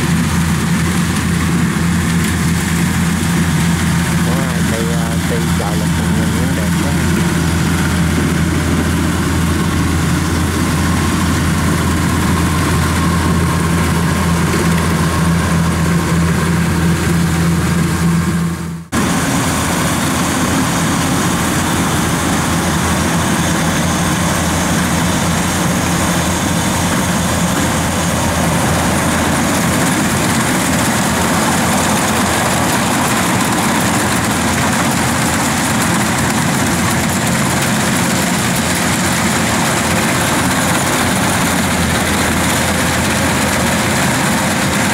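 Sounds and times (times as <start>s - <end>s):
combine harvester diesel engine: 0.0s - 44.9s.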